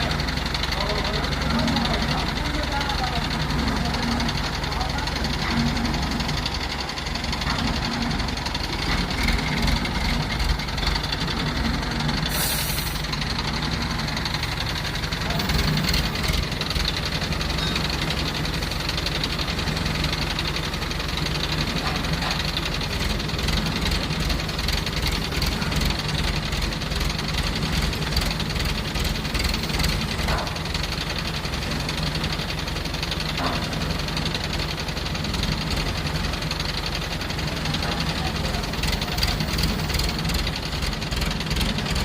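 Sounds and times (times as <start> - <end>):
jaw crusher running: 0.0 - 12.2, 13.3 - 42.0.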